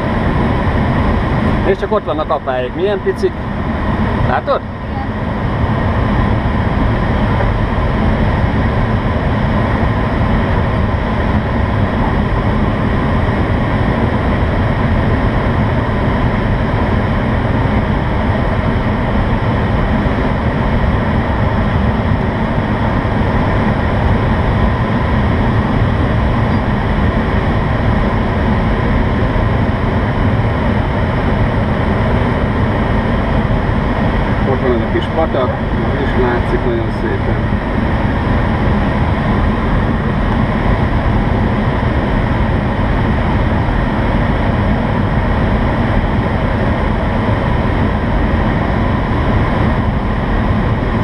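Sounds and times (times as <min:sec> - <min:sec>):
airflow rushing over glider: 0:00.0 - 0:51.0.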